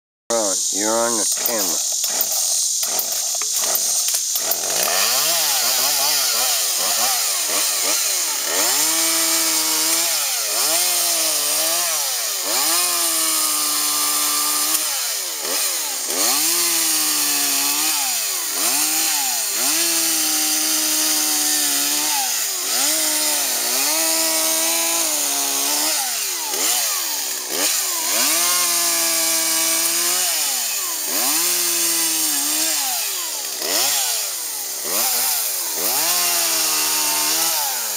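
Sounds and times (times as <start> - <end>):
chainsaw cutting tree limbs: 0.3 - 37.9.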